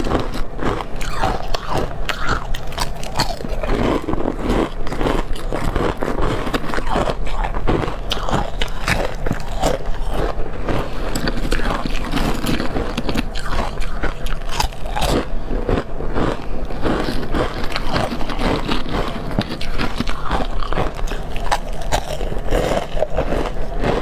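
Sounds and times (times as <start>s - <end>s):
ice chips crunching while chewed: 0.0s - 24.0s.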